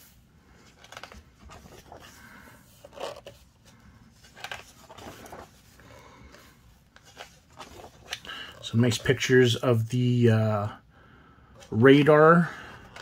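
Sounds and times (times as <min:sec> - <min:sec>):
book pages turning: 0:00.0 - 0:09.6, 0:11.6 - 0:13.0.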